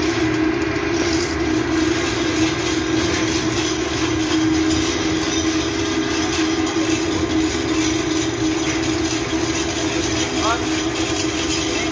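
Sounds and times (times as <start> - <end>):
engine-room machinery drone: 0.0 - 11.9.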